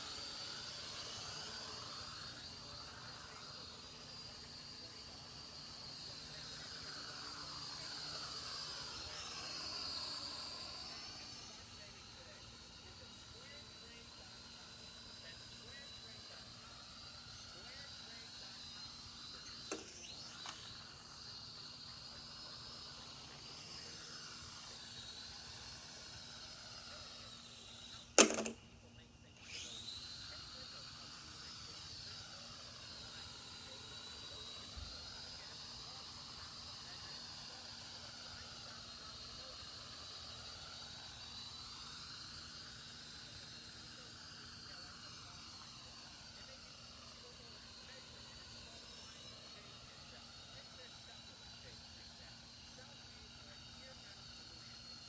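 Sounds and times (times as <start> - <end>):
constant low hum: 0.0 - 55.0
toy drone motors whining: 0.0 - 55.0.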